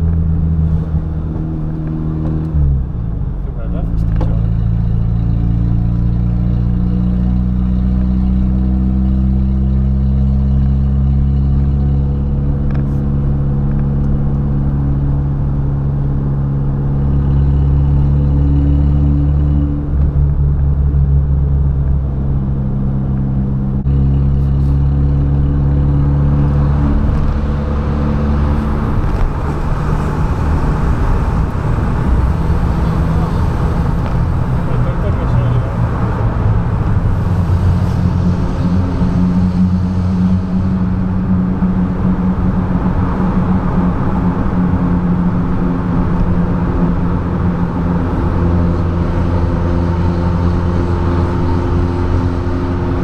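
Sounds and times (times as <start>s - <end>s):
car engine and exhaust droning: 0.0s - 53.0s.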